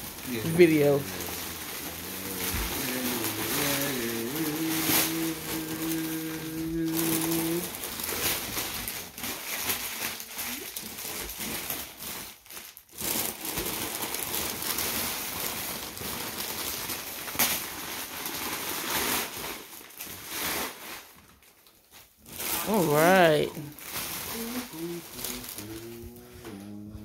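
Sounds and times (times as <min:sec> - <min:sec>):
wrapping paper crinkling: 0:00.0 - 0:26.8.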